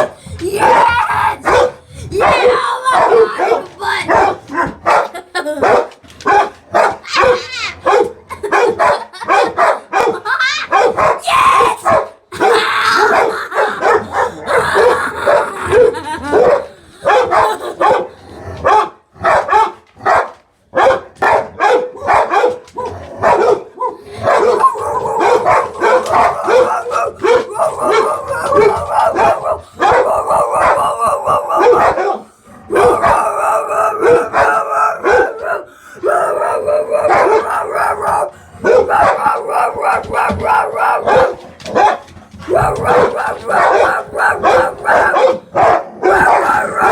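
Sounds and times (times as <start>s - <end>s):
dogs barking and howling: 0.0s - 46.9s.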